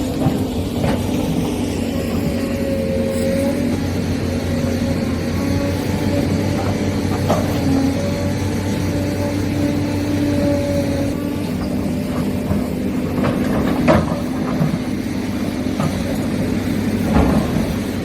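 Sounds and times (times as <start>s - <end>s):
electric gear motors whining: 0.0s - 18.0s.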